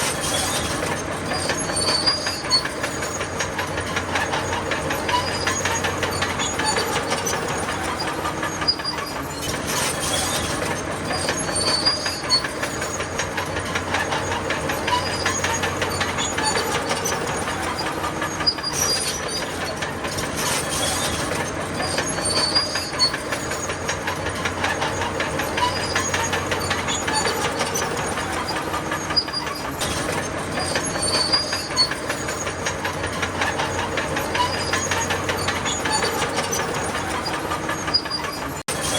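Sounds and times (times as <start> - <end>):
diesel engine running: 0.0 - 38.9
steel tracks clattering: 0.0 - 38.9
track links squeaking: 0.0 - 38.9.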